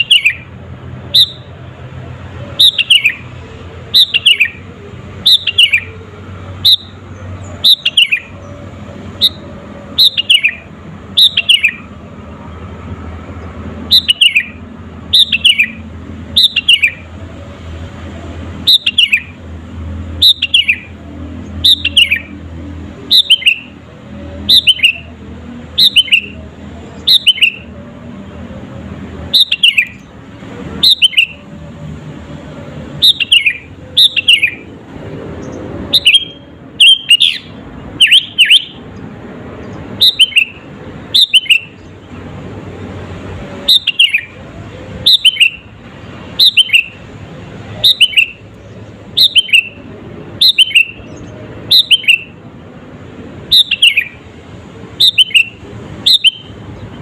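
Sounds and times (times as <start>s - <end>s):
bulbul singing: 0.0s - 57.0s.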